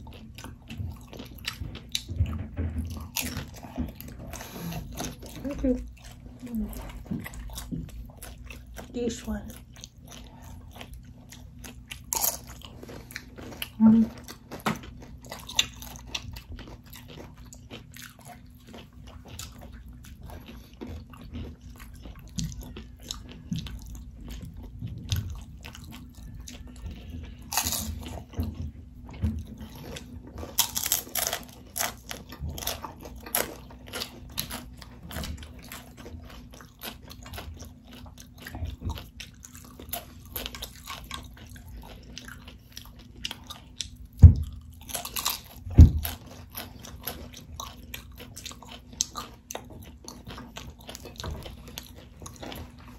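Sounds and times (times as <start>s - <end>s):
crunching tortilla chips: 7.3s - 52.9s.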